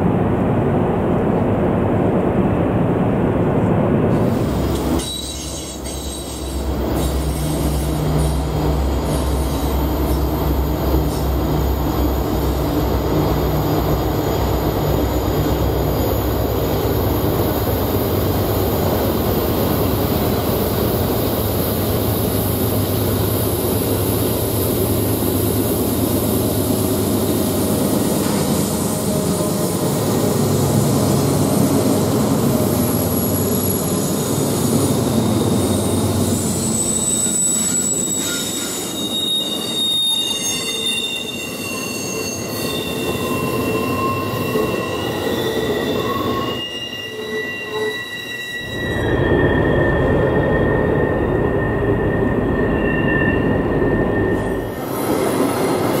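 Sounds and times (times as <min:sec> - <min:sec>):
locomotive engines droning: 0:03.3 - 0:56.0
train cars rolling: 0:03.6 - 0:56.0
steel wheels squealing on rail: 0:04.2 - 0:56.0.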